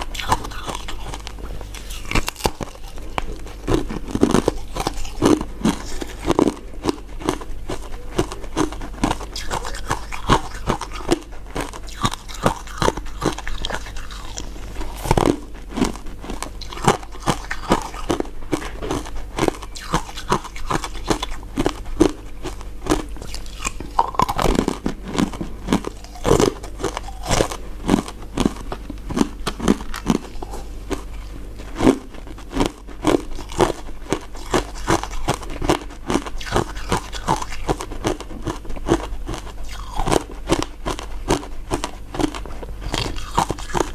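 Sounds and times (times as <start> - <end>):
chewing crunchy ice pieces: 0.0 - 43.9
faint low hum: 0.0 - 43.9.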